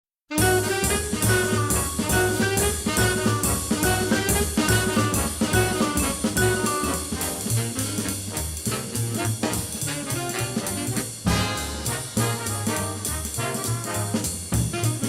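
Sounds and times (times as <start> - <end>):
big band jazz: 0.3 - 15.0.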